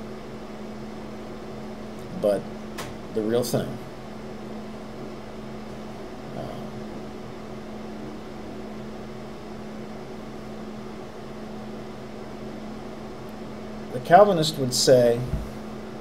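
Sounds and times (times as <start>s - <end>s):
equipment hum with hiss: 0.0s - 16.0s.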